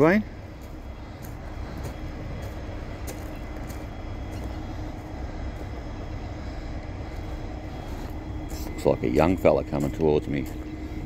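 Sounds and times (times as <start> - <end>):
constant hum: 0.0 - 11.0
diesel locomotive engine rumble: 0.0 - 11.0.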